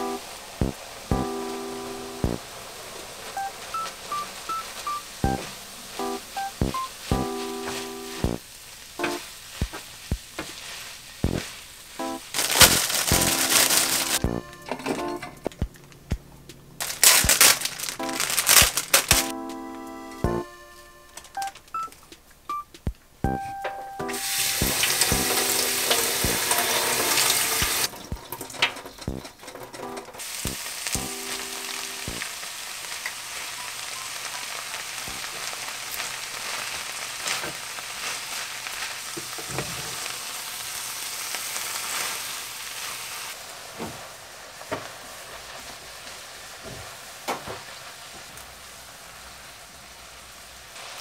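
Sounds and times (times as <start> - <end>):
frying pan sizzling: 0.0 - 51.0.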